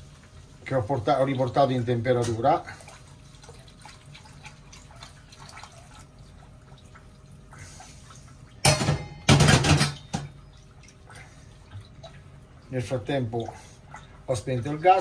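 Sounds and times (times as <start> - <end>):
liquid trickling and dripping: 0.0 - 9.2, 9.9 - 15.0.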